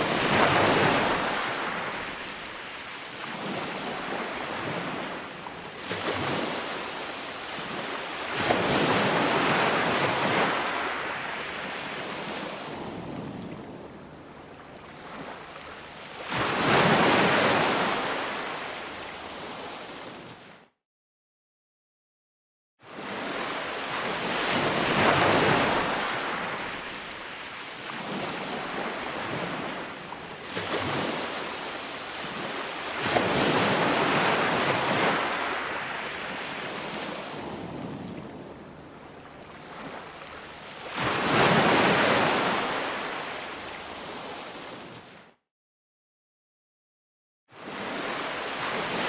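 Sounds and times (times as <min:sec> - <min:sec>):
ocean waves breaking on shore: 0:00.0 - 0:20.6, 0:22.9 - 0:45.4, 0:47.5 - 0:49.0.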